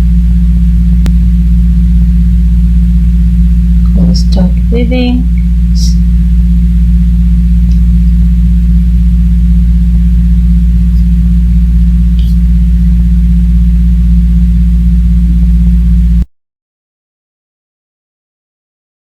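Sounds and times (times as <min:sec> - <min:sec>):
low electrical hum: 0:00.0 - 0:16.3.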